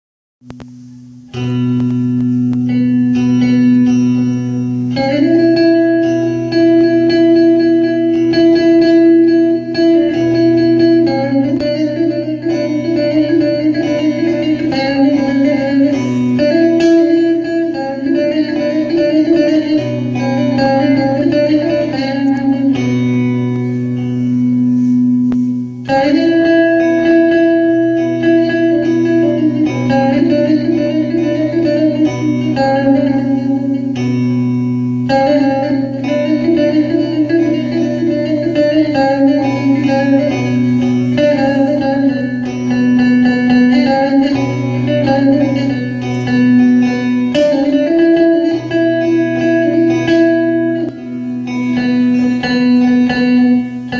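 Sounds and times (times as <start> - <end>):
plucked long-necked lute folk tune: 1.2 - 53.9.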